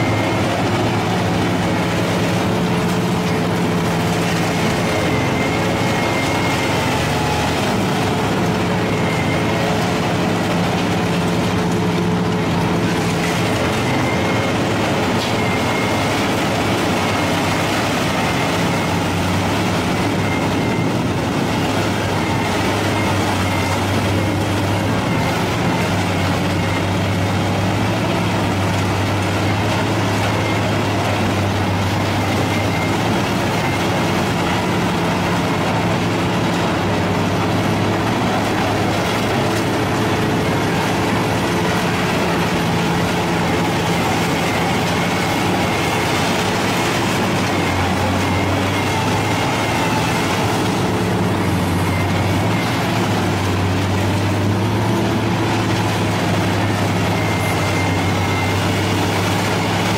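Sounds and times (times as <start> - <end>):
diesel engine low drone: 0.0 - 59.9
scrap metal clattering in shredder: 0.0 - 59.9.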